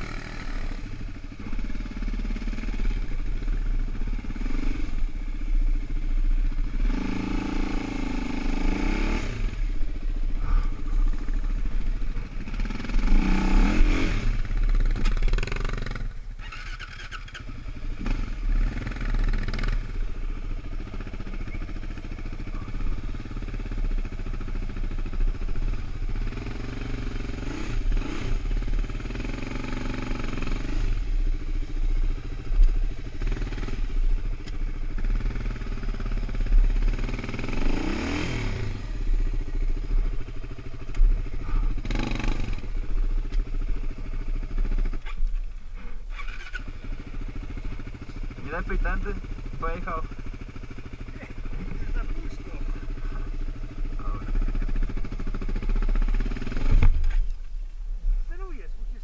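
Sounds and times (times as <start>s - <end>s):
quad engine revving: 0.0s - 5.4s, 6.6s - 45.2s, 45.8s - 57.2s.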